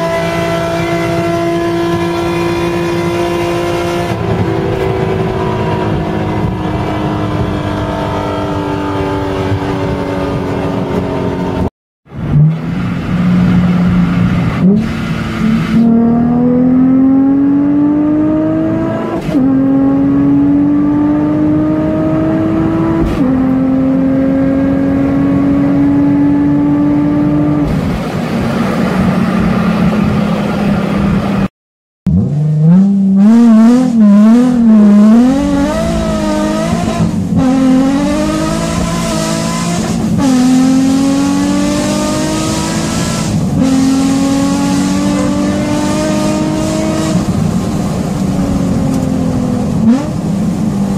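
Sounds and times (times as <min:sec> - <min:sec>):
car engine accelerating hard: 0:00.0 - 0:31.5, 0:32.1 - 0:50.9.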